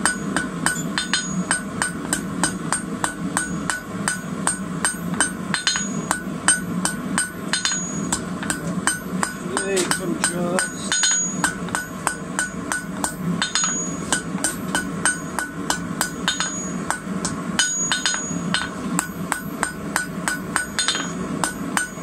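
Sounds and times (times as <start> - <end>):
hammer striking hot metal on anvil: 0.0 - 22.0.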